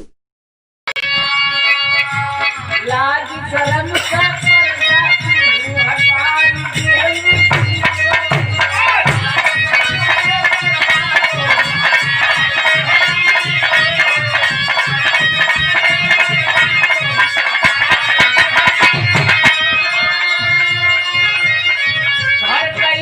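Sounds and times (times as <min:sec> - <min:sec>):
steady drum beat: 0:02.2 - 0:23.0.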